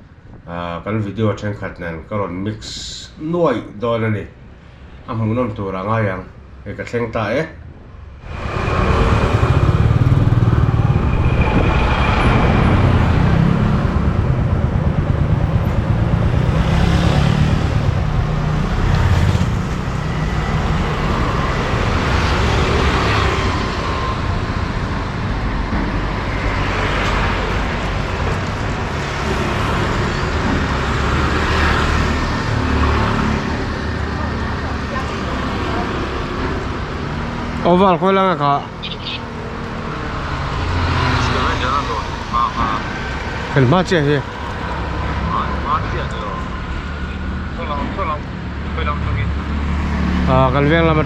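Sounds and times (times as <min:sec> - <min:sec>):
road traffic noise: 0:00.0 - 0:51.0.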